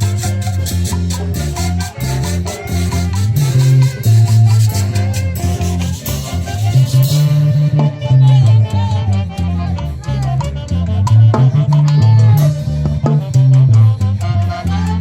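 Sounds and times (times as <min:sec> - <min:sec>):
band playing latin dance music: 0:00.0 - 0:15.0
bass line: 0:00.0 - 0:15.0
shaken and struck percussion: 0:00.0 - 0:15.0.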